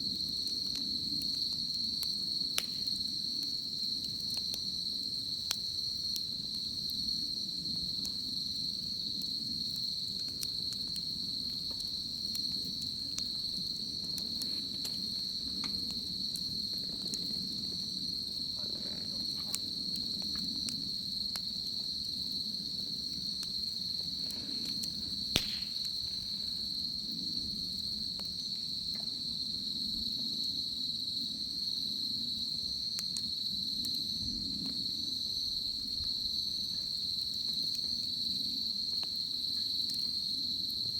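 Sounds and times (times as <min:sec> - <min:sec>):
bonfire crackling and popping: 0:00.0 - 0:40.9
high insect trill: 0:00.0 - 0:40.9.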